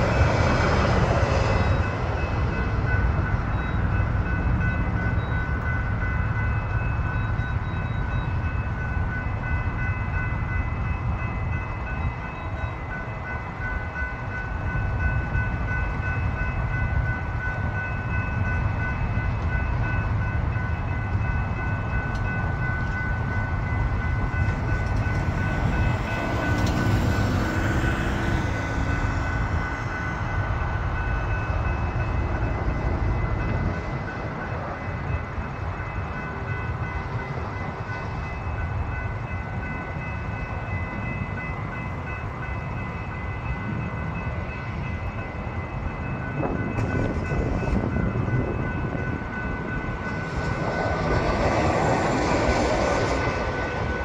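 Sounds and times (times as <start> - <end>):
crossing warning bells ringing: 0.0 - 54.0
train passing: 0.0 - 54.0.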